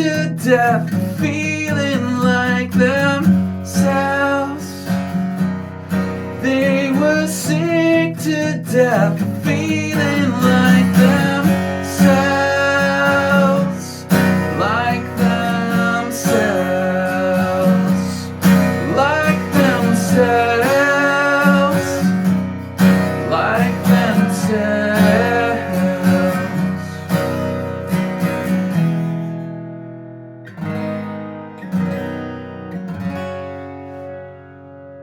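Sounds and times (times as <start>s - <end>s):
acoustic guitar strumming with melody: 0.0s - 35.0s.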